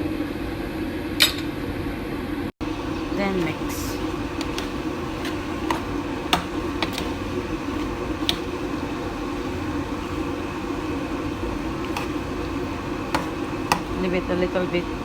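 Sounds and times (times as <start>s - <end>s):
steady hum: 0.0s - 15.0s
thick sauce being stirred: 2.6s - 15.0s.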